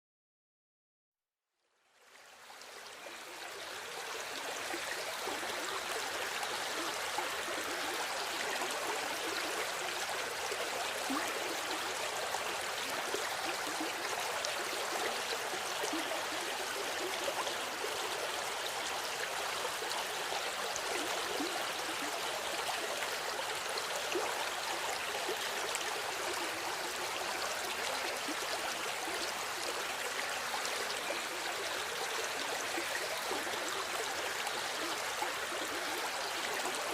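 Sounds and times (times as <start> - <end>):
river water rushing and gurgling: 2.5 - 36.9.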